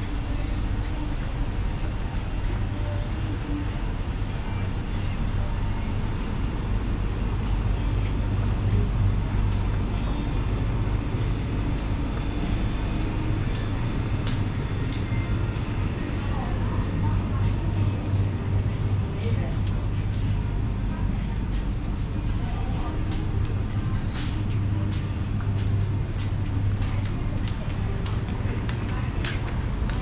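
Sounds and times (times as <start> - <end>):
low ambient hum: 0.0 - 30.0.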